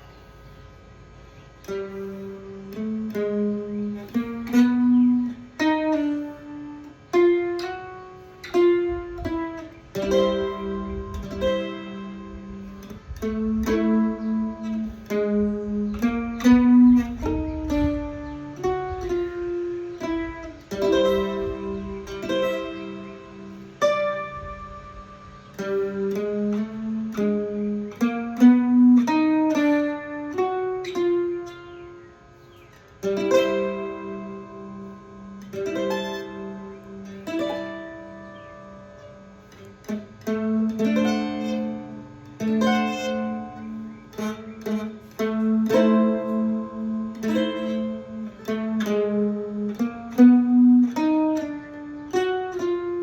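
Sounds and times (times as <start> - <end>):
electric guitar blues lick: 1.6 - 53.0.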